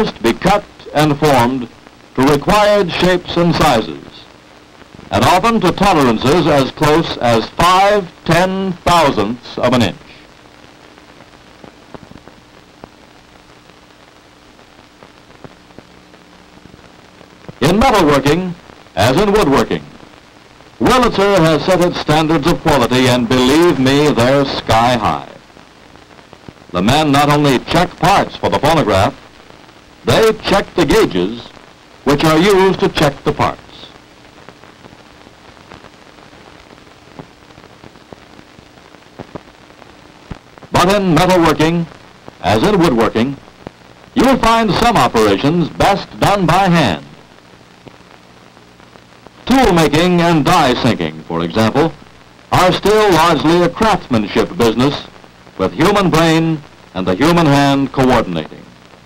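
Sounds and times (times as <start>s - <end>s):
crackles and pops: 0.0s - 59.0s
faint steady hum: 0.0s - 59.0s
film soundtrack hiss: 0.0s - 59.0s.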